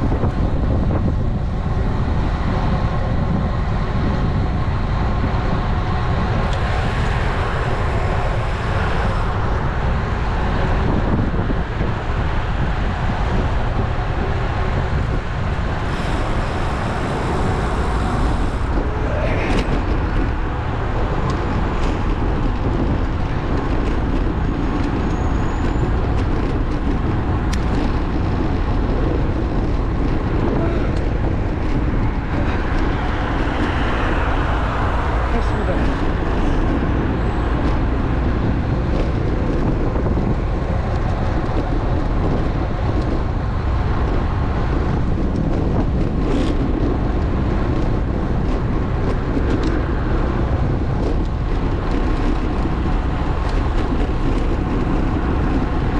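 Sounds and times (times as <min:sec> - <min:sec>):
road traffic noise: 0:00.0 - 0:55.9
wind rushing over microphone: 0:00.0 - 0:55.9.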